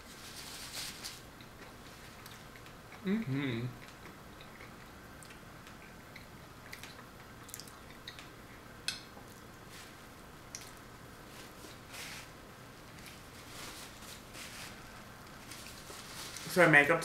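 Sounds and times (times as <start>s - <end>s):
soft chewing: 0.2s - 16.5s.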